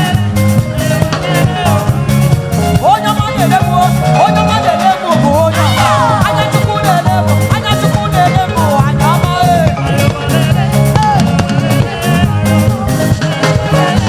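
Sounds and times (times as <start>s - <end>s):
drum kit beating: 0.0s - 14.0s
live band playing upbeat groove: 0.0s - 14.0s.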